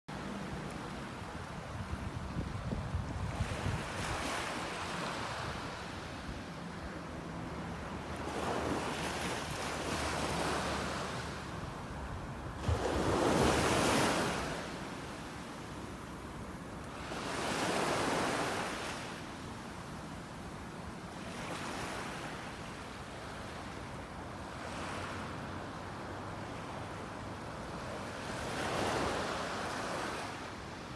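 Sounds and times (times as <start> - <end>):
ocean waves surging and washing: 0.1 - 30.9.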